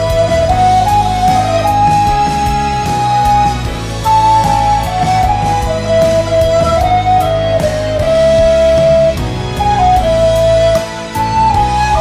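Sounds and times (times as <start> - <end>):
band backing track: 0.0 - 12.0
recorder playing melody: 0.0 - 12.0.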